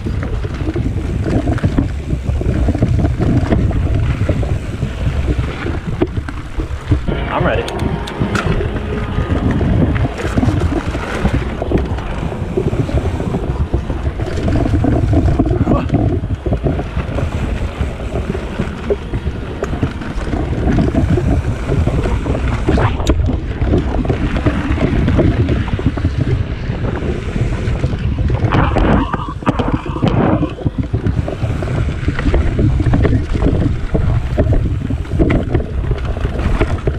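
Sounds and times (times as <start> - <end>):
bike tyres rumbling on trail: 0.0 - 36.9
wind buffeting microphone: 0.0 - 36.9.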